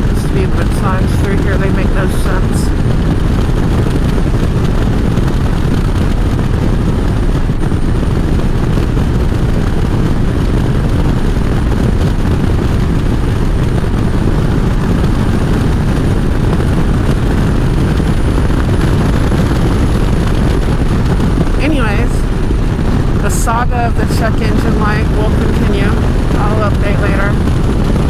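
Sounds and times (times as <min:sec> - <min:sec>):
motorcycle engine rumble: 0:00.0 - 0:28.0
wind rush over microphone: 0:00.0 - 0:28.0.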